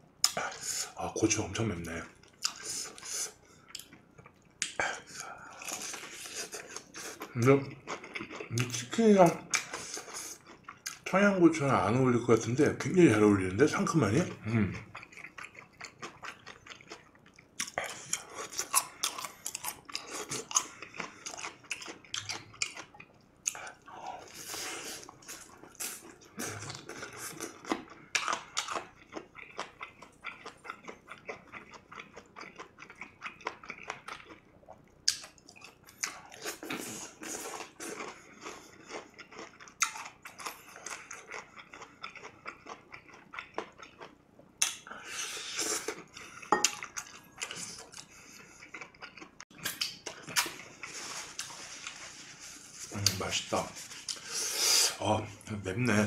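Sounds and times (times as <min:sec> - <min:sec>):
chewing crispy chicken: 0:02.0 - 0:11.1, 0:14.2 - 0:54.4.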